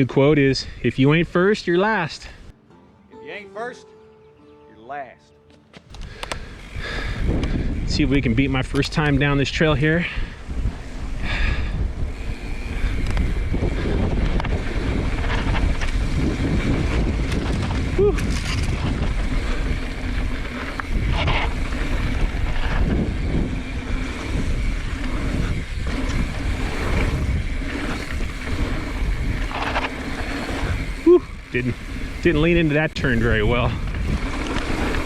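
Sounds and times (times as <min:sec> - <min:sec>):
mountain bike rumbling on dirt trail: 0:05.9 - 0:35.0
wind buffeting microphone: 0:05.9 - 0:35.0.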